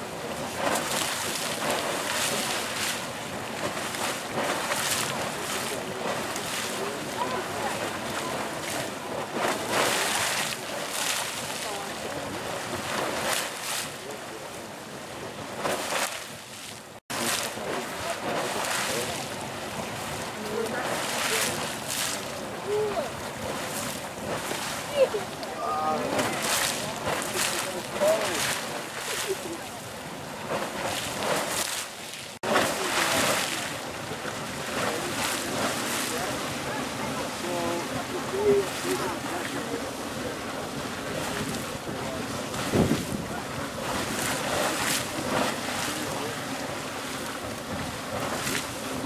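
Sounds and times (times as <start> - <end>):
geyser water bursting: 0.0 - 49.0
rush of spraying water: 0.0 - 49.0.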